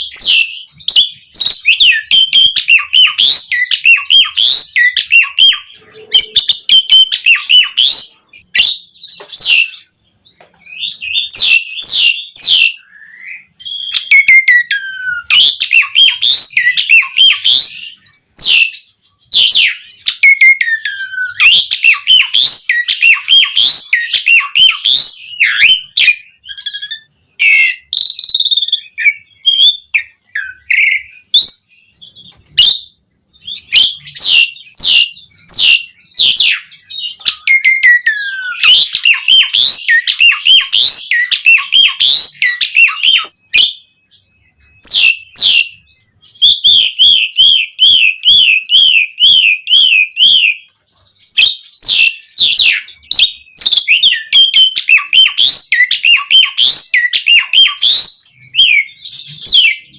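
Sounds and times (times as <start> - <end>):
starling whistling song: 0.0 - 59.9.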